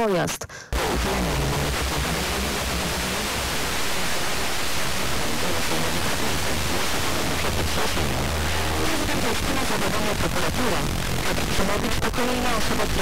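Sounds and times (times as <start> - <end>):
radio static hiss: 0.7 - 13.0.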